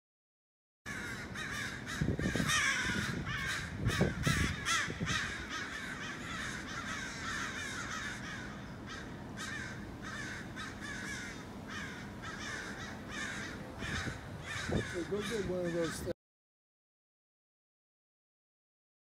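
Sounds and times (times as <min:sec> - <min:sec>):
crows cawing: 0:00.9 - 0:16.2.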